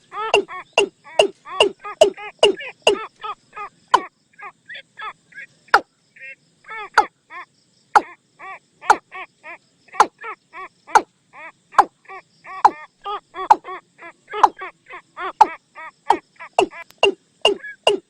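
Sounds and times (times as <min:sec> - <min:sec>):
recorded bird calls: 0:00.0 - 0:18.0.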